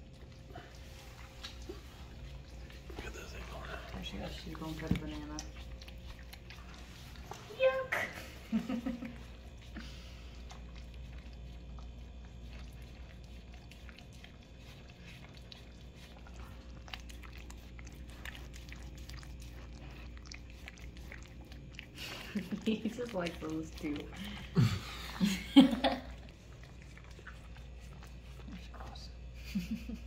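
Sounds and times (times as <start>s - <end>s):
dog licking food: 0.0s - 29.6s
low steady hum: 0.0s - 30.0s.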